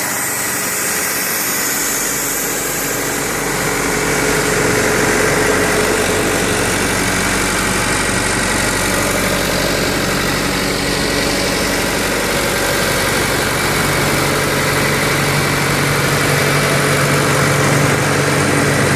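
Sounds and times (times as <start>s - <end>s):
diesel generator running: 0.0s - 18.9s.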